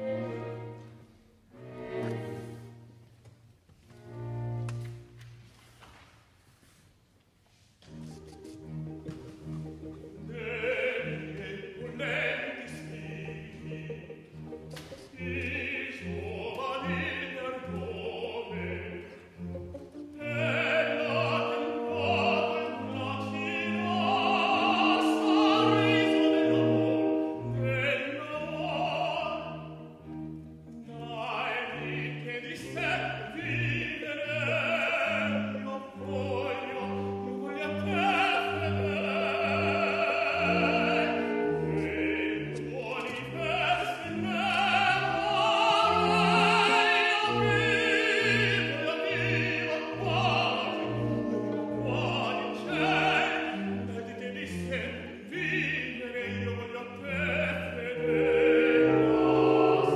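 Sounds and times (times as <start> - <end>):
man singing opera with vibrato: 9.1 - 59.9.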